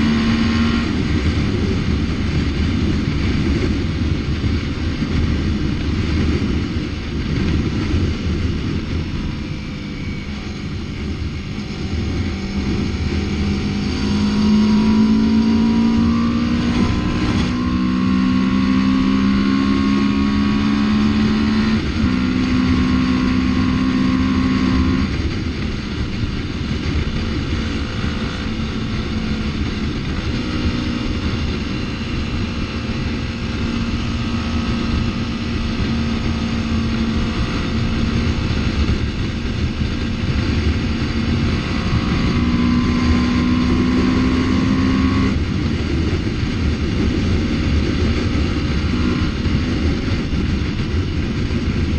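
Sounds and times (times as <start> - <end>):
motorcycle engine running: 0.0 - 51.9
wind rush on microphone: 0.0 - 51.9.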